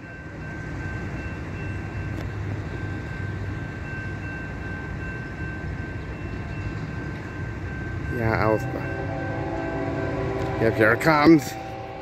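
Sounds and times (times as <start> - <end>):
low rumble of train: 0.0 - 12.0
railroad crossing bell: 0.0 - 12.0.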